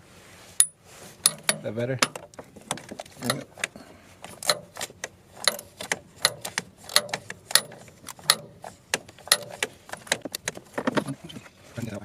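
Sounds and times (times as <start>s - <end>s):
hand ratchet clicking on metal: 0.6s - 10.6s.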